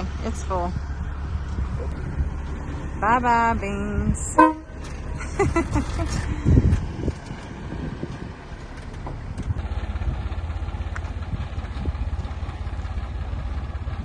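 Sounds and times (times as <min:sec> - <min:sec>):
large vehicle engine running: 0:00.0 - 0:14.0.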